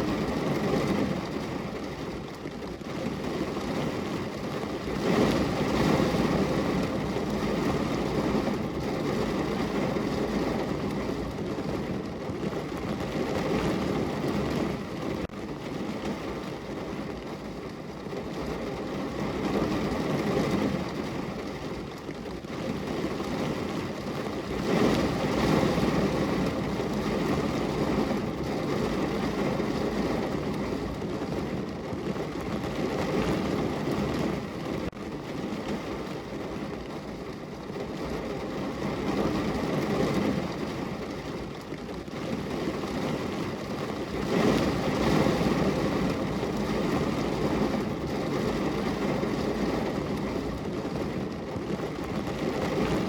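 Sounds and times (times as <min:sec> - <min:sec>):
heavy rain on a car roof: 0:00.0 - 0:53.0.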